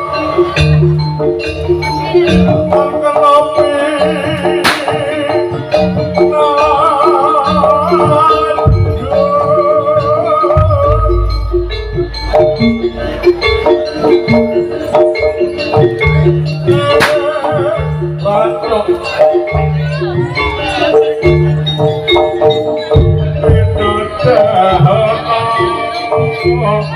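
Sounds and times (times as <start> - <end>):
high wavering lead melody: 0.0 - 26.9
metallophone notes: 0.0 - 26.9.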